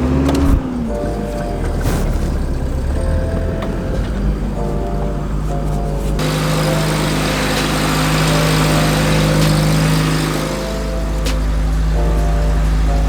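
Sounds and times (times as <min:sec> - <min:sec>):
car engine hum: 0:00.0 - 0:13.0
light background music: 0:00.0 - 0:13.0
road and wind noise: 0:00.0 - 0:13.0.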